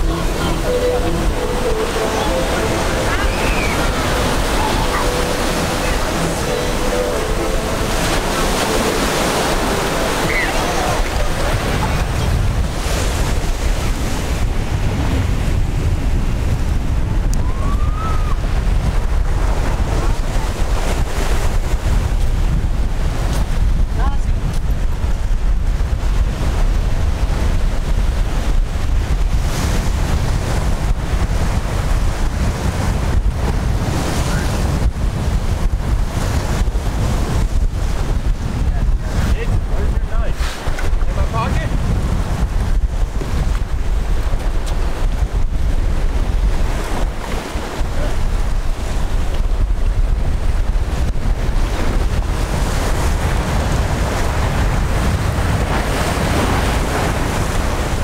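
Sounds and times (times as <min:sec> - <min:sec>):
surf against rocks: 0:00.0 - 0:58.0
wind buffeting microphone: 0:00.0 - 0:58.0.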